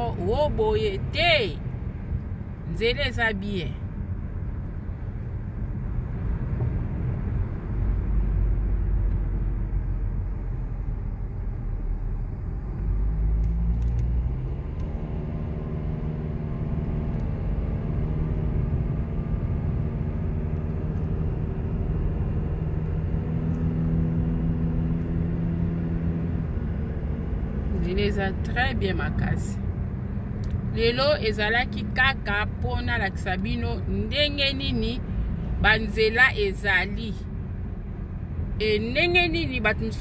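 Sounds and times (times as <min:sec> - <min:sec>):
engine hum: 0:00.0 - 0:40.0
road and engine rumble: 0:00.0 - 0:40.0.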